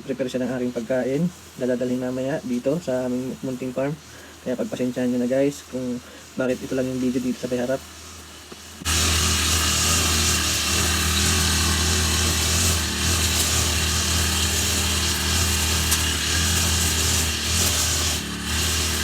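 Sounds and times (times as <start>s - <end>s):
brush cutter engine running: 0.6s - 19.0s.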